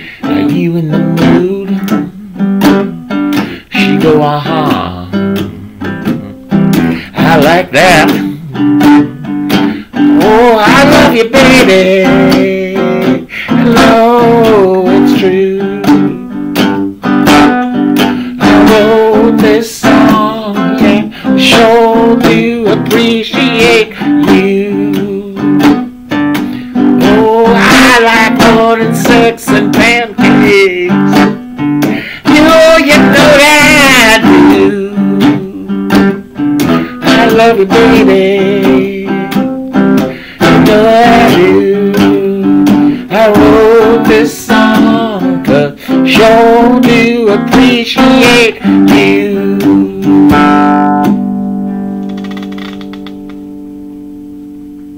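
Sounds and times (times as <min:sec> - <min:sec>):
man singing: 0:00.0 - 0:16.5, 0:17.3 - 0:50.9
acoustic guitar strumming blues: 0:00.0 - 0:54.9.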